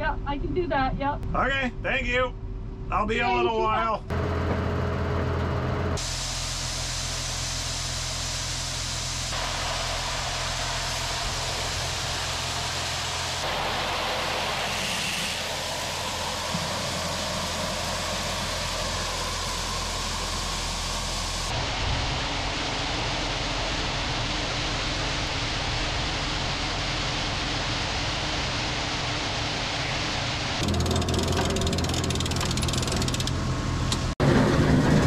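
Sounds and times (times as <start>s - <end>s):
engine drone: 0.0s - 35.0s.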